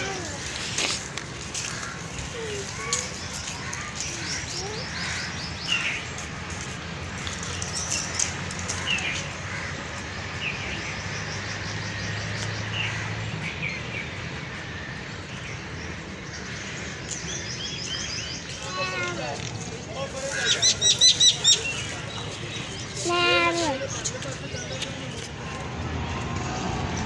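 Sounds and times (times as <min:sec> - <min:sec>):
small birds chirping: 0:00.0 - 0:14.2, 0:15.2 - 0:25.6.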